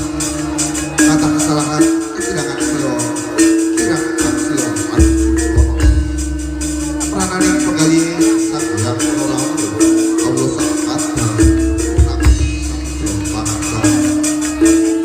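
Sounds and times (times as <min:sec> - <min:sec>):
ensemble music over sound system: 0:00.0 - 0:15.0.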